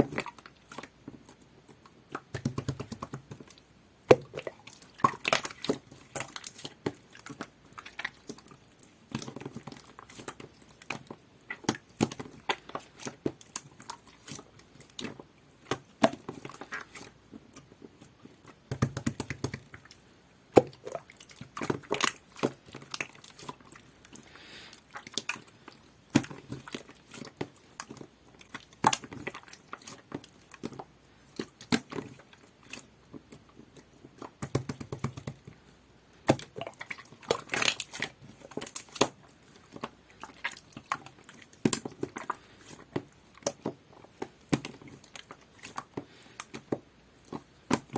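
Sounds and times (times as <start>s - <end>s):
hands squishing slime: 0.0s - 47.9s.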